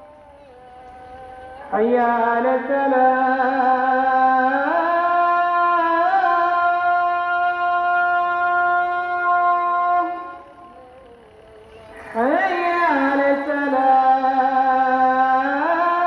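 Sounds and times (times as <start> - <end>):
voice chanting call to prayer: 0.0 - 16.0.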